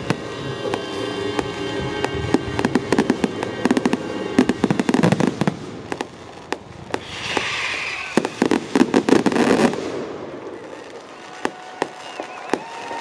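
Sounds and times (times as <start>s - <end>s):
firework hiss: 0.0s - 13.0s
fireworks popping and crackling: 0.0s - 13.0s.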